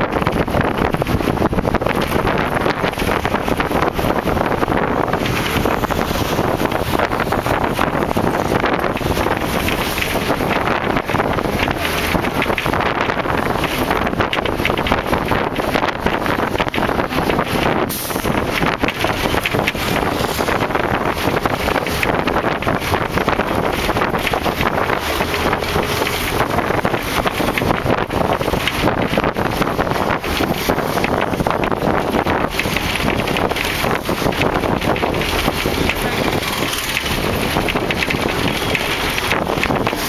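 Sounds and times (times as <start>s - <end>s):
vehicle running noise: 0.0s - 40.0s
wind rushing over microphone: 0.0s - 40.0s.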